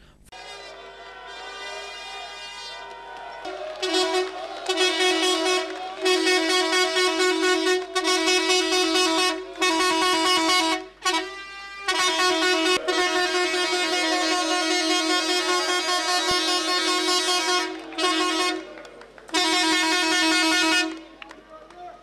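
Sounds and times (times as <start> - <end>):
vehicle horn blaring: 0.3 - 3.0, 3.6 - 18.7, 19.3 - 21.0.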